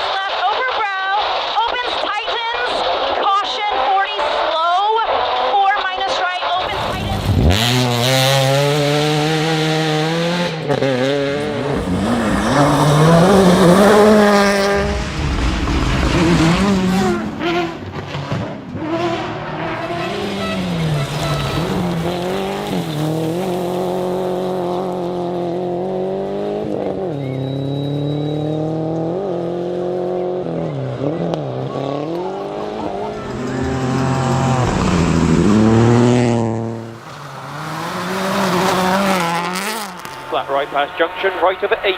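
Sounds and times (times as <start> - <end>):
rally car engine revving: 4.2 - 41.9.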